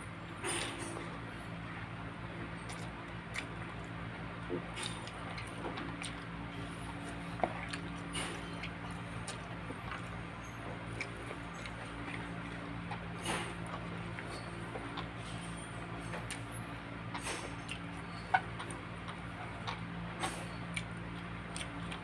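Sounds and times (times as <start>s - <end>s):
steady low hum: 0.0s - 22.0s
chewing with moist smacks: 0.9s - 22.0s.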